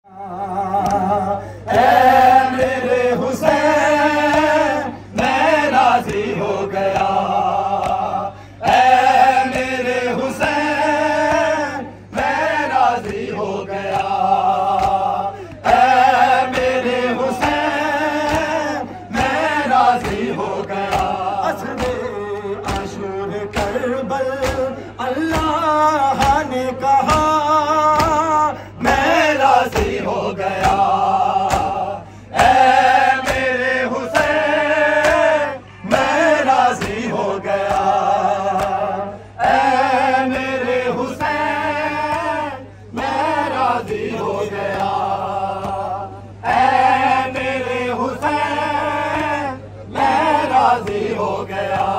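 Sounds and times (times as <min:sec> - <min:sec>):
men chanting a lament over loudspeaker: 0:00.0 - 0:51.9
steady low hum: 0:00.1 - 0:51.9.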